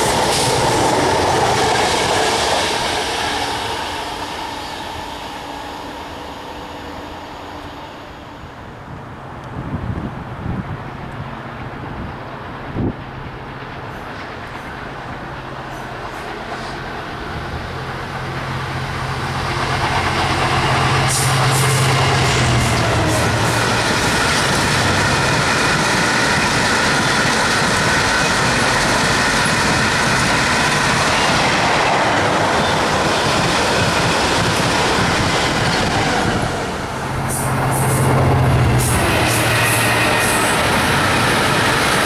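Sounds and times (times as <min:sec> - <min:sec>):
diesel locomotive engine drone: 0:00.0 - 0:42.0.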